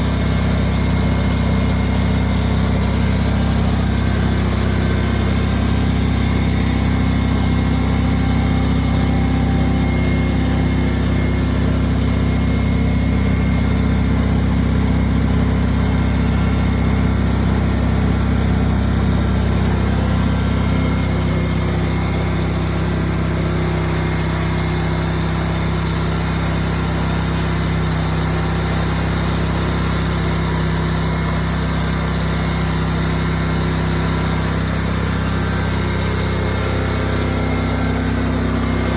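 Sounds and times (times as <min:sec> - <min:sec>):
riding lawn mower engine: 0:00.0 - 0:38.9.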